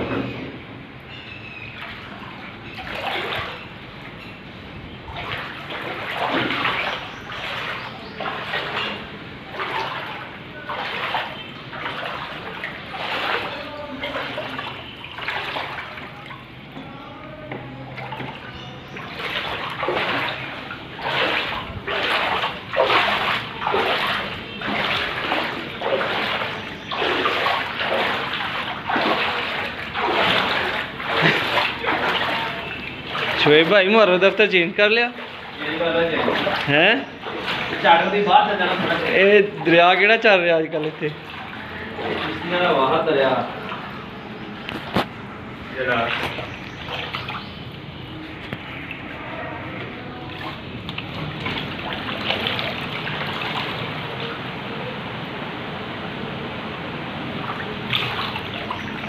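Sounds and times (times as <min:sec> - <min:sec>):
floodwater rushing and splashing: 0:00.9 - 0:59.0.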